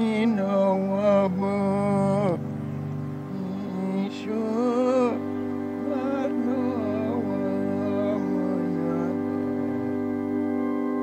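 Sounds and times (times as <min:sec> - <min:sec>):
held keyboard chords: 0:00.0 - 0:11.0
wavering wordless melody: 0:00.0 - 0:11.0.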